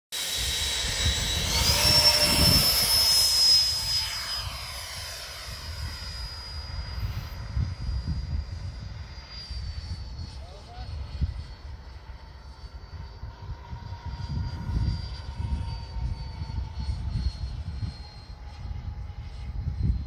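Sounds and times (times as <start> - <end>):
electric ducted fan whine: 0.2 - 20.0.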